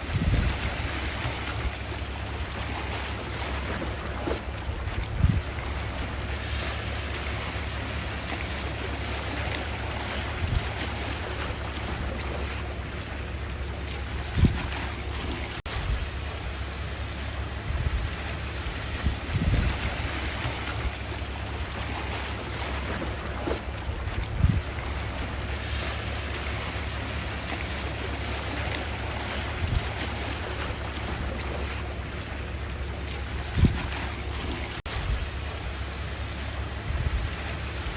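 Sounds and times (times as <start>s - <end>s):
sea waves washing: 0.0s - 37.9s
wind on microphone: 0.0s - 37.9s.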